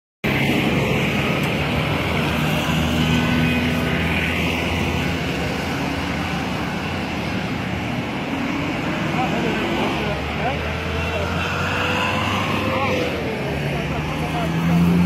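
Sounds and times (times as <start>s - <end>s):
vehicle engine hum: 0.2s - 15.0s.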